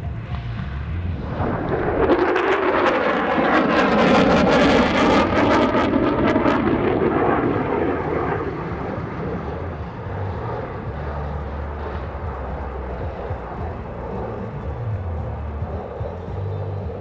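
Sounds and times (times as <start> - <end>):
jet fly-by: 0.0 - 17.0.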